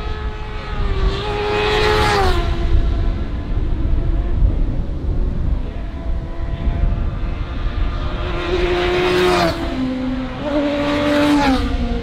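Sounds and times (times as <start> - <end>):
racing motorcycle passing at speed: 0.0 - 12.0.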